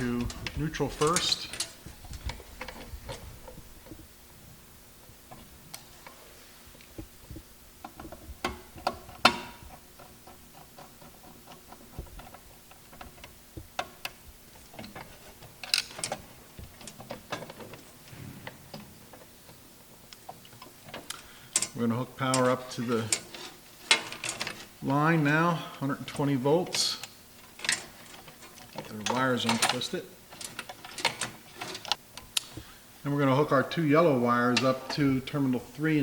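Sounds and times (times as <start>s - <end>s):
hand tools and wires clicking: 0.0s - 4.1s, 6.8s - 25.3s, 26.0s - 32.7s.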